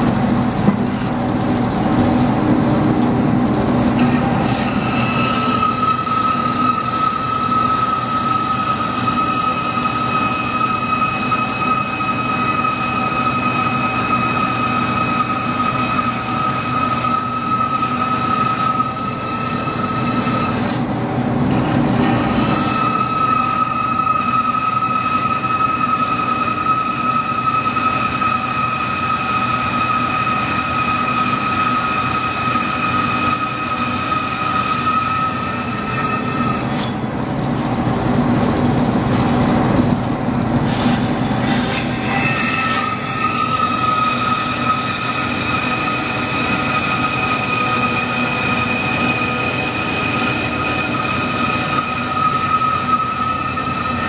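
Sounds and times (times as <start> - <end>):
bandsaw running free: 0.0 - 54.0
bandsaw blade squealing in metal: 3.3 - 37.7, 40.1 - 54.0.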